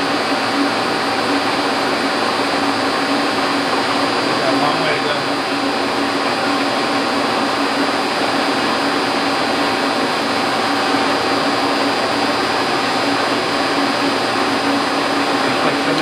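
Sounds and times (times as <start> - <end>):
machine motor whirring: 1.3 - 16.0.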